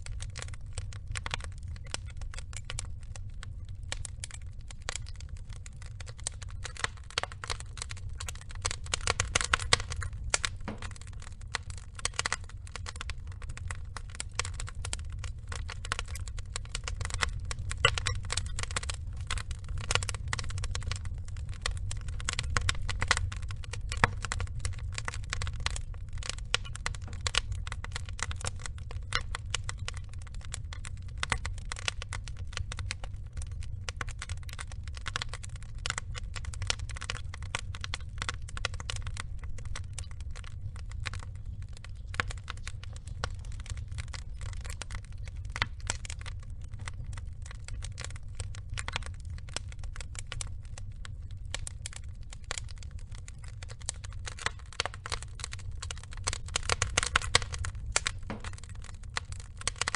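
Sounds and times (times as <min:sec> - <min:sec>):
log fire crackling: 0:00.0 - 0:59.9.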